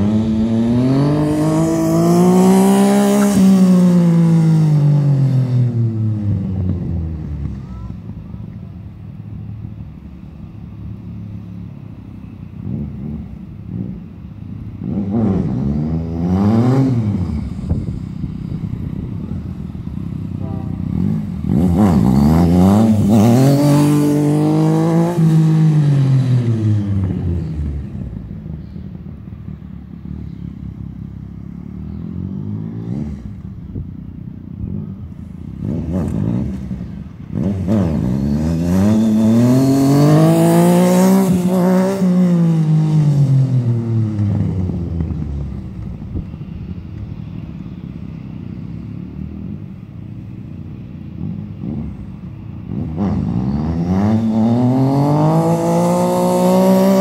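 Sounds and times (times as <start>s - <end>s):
motorcycle engine revving: 0.0s - 8.1s, 12.5s - 57.0s.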